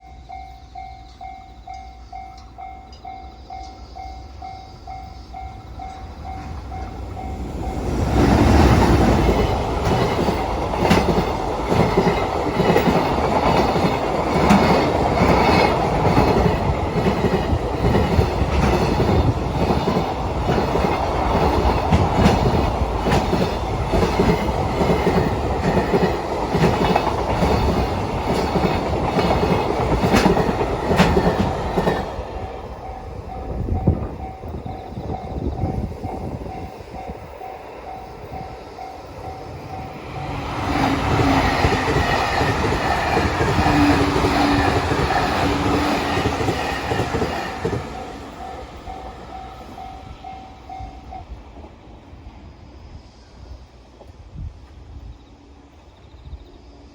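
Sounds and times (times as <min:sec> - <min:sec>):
train wheels clattering over rails: 0:01.1 - 0:50.8.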